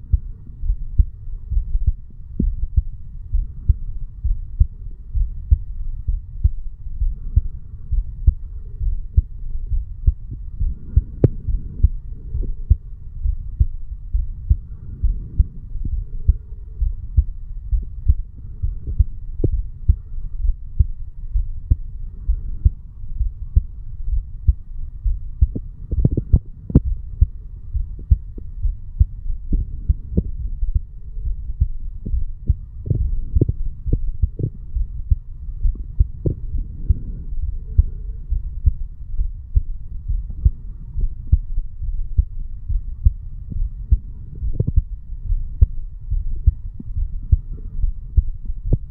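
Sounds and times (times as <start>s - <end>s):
heartbeat thuds: 0.0s - 48.9s.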